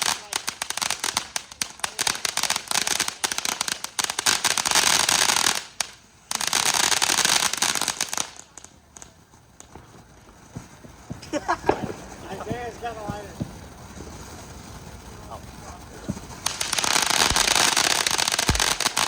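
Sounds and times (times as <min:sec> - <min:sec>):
firecrackers popping and crackling: 0:00.0 - 0:19.0.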